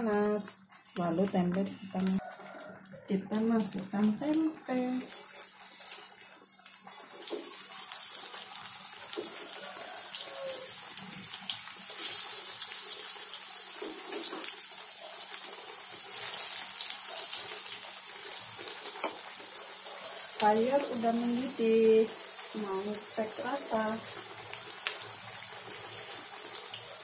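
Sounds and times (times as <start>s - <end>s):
deep-frying sizzle with crackling pops: 0.0s - 2.7s, 3.4s - 27.0s.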